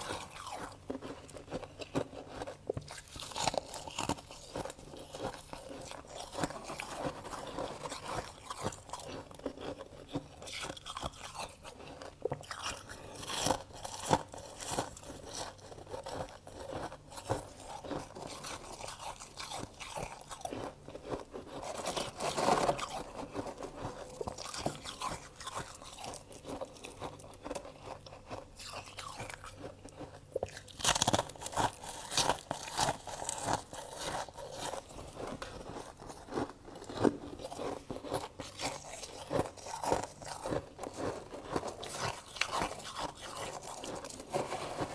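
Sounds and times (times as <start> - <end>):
person chewing frost: 0.0 - 44.9.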